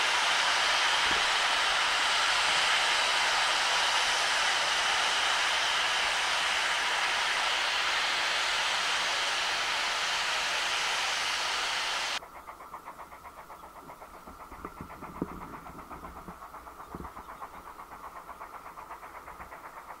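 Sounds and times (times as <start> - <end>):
distant steam locomotive exhaust beats: 0.0 - 20.0
locomotive steam hissing: 0.0 - 20.0.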